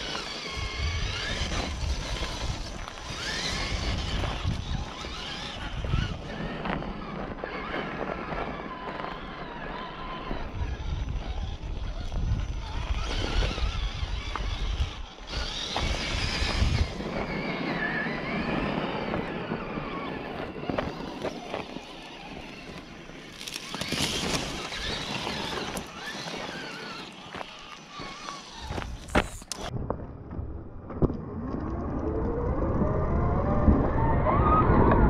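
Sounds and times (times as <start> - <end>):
electric motor and gears whining: 0.0 - 29.8, 30.8 - 35.0.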